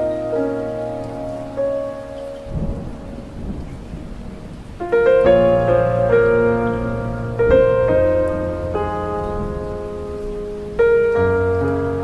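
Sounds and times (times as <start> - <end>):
low rumble of thunder: 0.0 - 12.0
rain falling: 0.0 - 12.0
soft piano music: 0.0 - 12.0.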